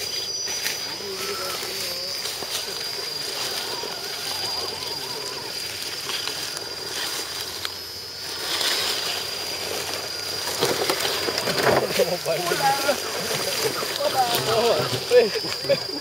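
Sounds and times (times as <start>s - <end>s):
toy trucks crunching over leaves: 0.0s - 16.0s.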